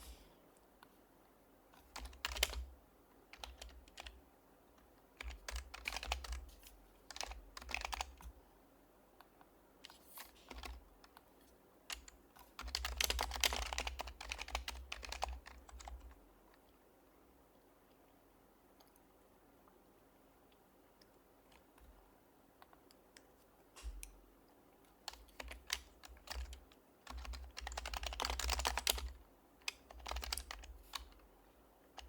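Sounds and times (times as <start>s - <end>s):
quiet keyboard typing: 1.7s - 8.5s, 9.2s - 16.8s, 20.5s - 32.0s.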